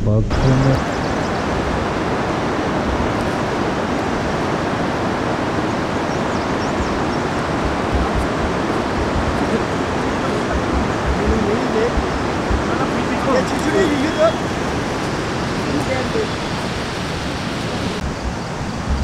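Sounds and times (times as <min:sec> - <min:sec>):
steady rushing noise: 0:00.3 - 0:19.0
wind buffeting microphone: 0:00.3 - 0:19.0.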